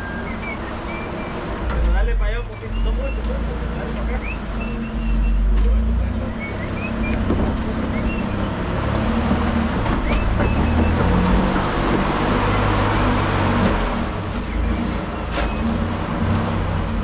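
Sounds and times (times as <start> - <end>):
truck engine at low revs: 0.0 - 17.0.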